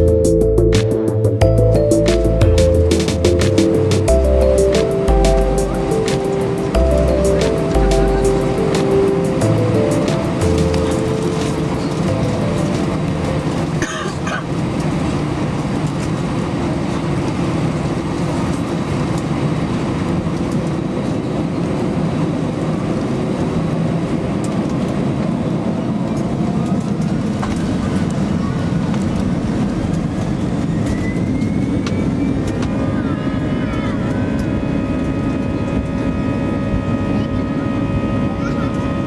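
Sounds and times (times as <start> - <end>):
airplane cabin rumble: 0.0 - 39.0.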